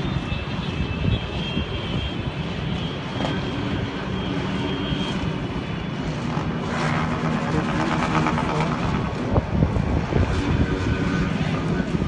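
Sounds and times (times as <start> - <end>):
distant city rumble: 0.0 - 12.0.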